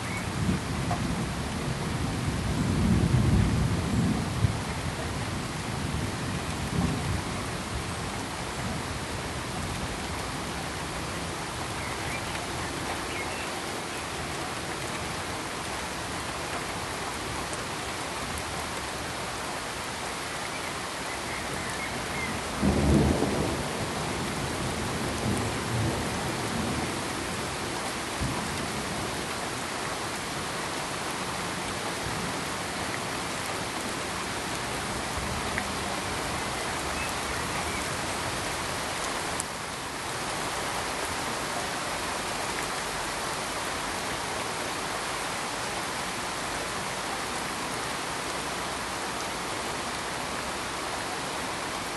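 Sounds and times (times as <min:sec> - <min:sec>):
heavy rain hissing: 0:00.0 - 0:51.9.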